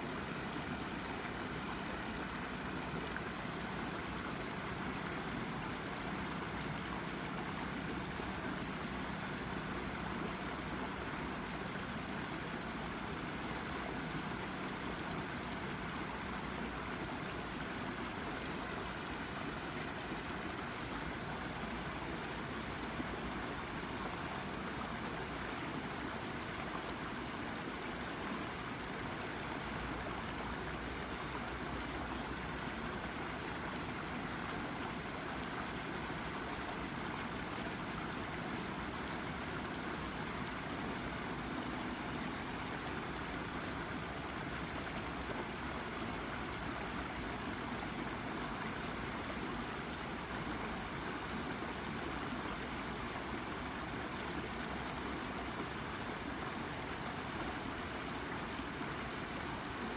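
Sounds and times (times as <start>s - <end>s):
brook babbling over rock: 0.0s - 59.9s.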